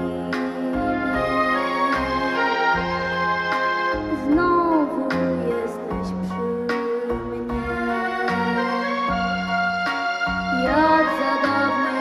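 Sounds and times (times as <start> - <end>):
slow ballad music: 0.0 - 12.0.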